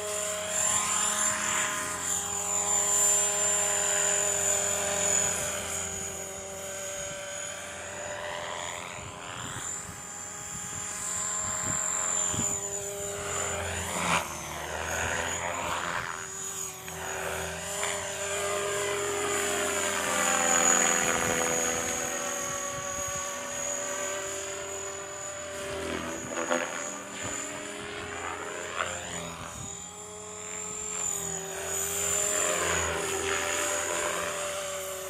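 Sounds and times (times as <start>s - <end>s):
model helicopter motor whine: 0.0s - 35.0s
rotor blades buzzing: 0.0s - 35.0s.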